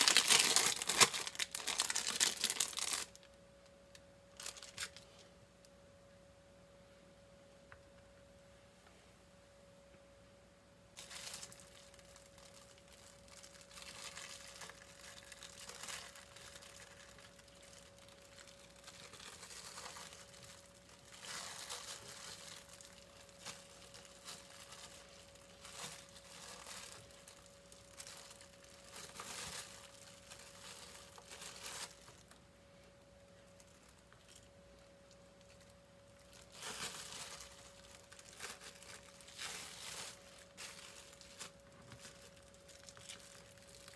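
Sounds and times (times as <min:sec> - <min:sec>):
cling film crinkling: 0:00.0 - 0:05.3, 0:11.0 - 0:32.4, 0:33.4 - 0:43.9
faint steady hum: 0:00.0 - 0:43.9.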